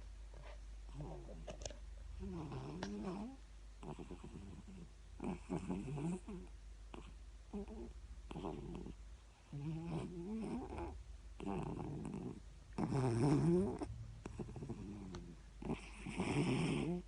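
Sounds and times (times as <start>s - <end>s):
cat snoring: 0.9s - 1.5s, 2.2s - 17.0s.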